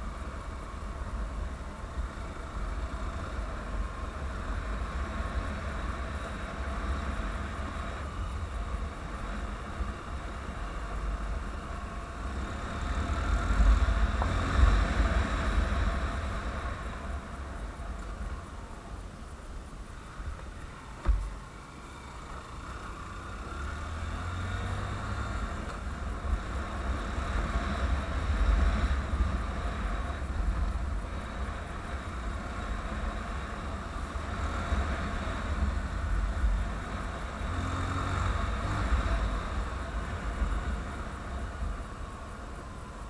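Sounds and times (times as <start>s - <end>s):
motor vehicle engine rumble: 0.0s - 43.0s.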